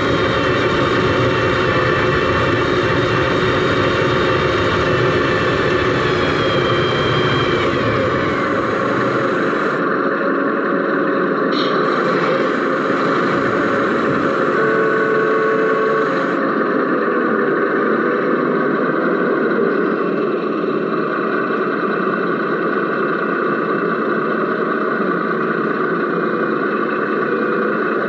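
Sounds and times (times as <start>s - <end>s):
model truck running with whine: 0.0s - 28.0s.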